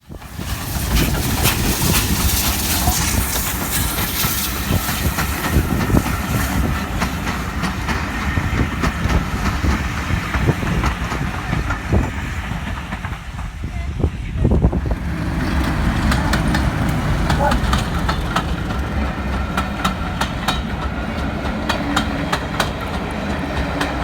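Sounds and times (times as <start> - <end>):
train passing rumble: 0.0 - 24.0
train wheels clicking and knocking: 0.1 - 24.0.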